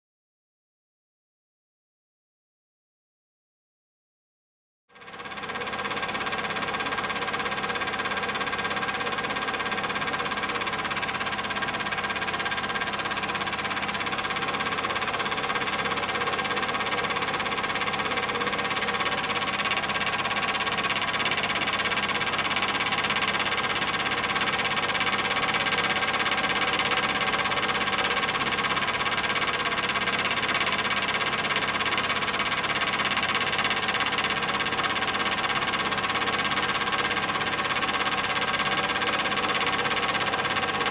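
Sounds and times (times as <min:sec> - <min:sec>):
film projector whirring: 0:05.0 - 0:40.9.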